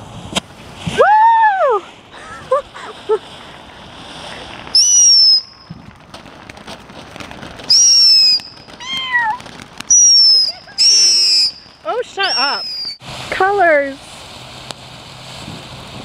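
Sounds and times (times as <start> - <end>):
firework whistles: 0.0 - 6.9, 7.5 - 16.0
firework hissing sparks: 0.0 - 16.0.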